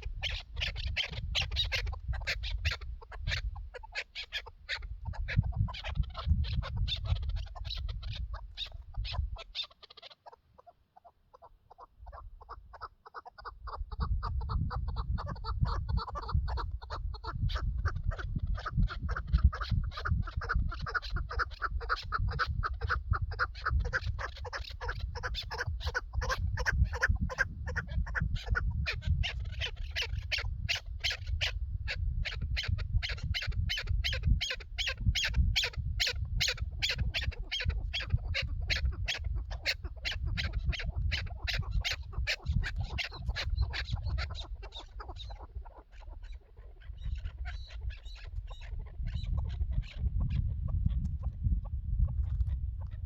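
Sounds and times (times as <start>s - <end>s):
partridge calling rapid notes: 0.1s - 31.5s, 32.6s - 50.1s.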